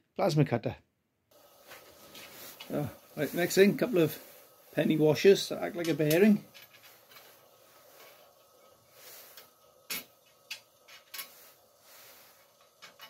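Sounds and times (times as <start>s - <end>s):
faint metal scraping: 1.4s - 13.0s.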